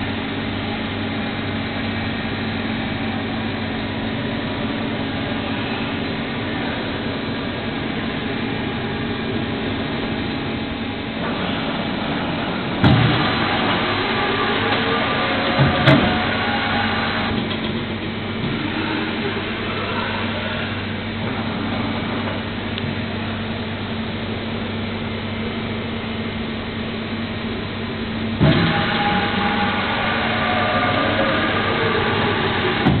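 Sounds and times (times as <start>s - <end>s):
loud noise: 0.0s - 33.0s
machining center humming: 0.0s - 33.0s.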